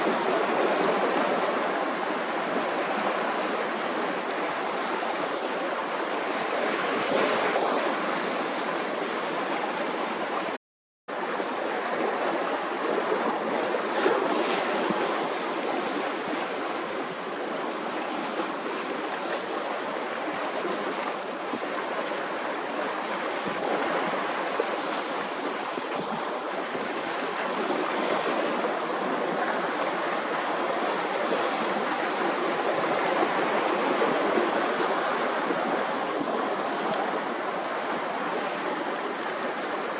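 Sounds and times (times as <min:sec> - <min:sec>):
sea waves on the shore: 0:00.0 - 0:39.9.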